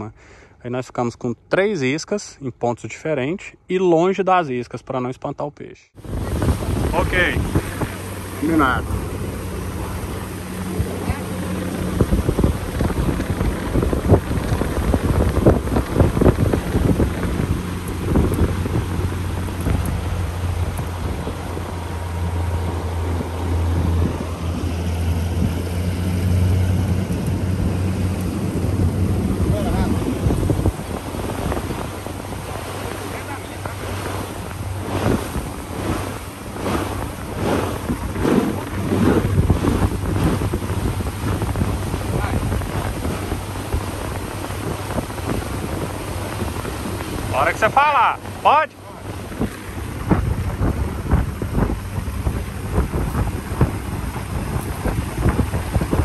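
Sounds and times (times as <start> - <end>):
boat motor humming: 6.0 - 56.0
wind buffeting microphone: 6.0 - 56.0.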